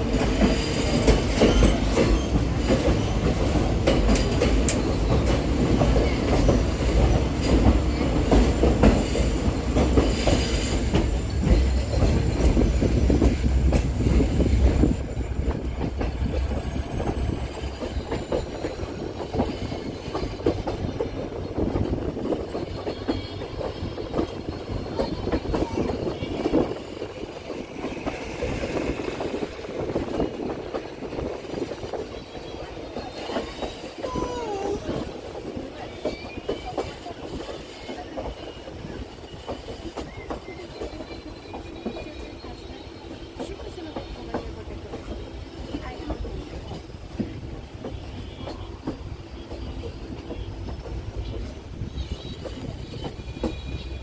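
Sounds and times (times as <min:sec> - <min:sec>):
train rumbling and rail clatter: 0:00.0 - 0:54.0.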